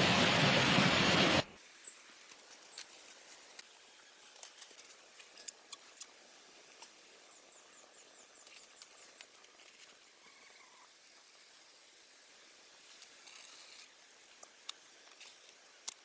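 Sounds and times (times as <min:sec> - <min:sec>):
leaves rustling: 0:00.0 - 0:16.0
small fire crackling: 0:00.0 - 0:16.0.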